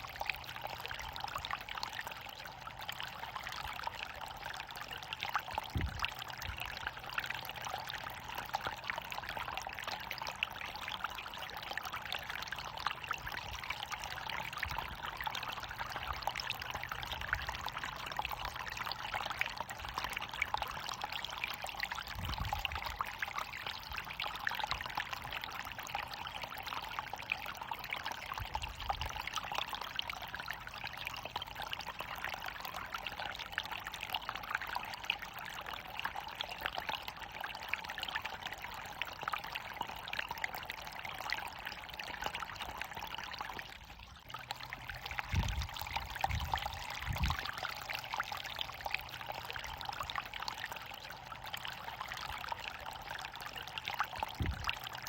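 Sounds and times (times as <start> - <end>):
water pouring and splashing: 0.0 - 55.0.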